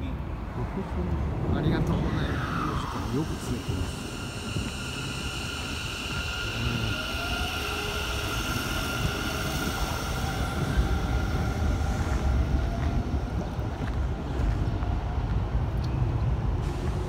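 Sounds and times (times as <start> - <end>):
train wheels rumbling on bridge: 0.4 - 17.0
electric train whine: 1.6 - 17.0.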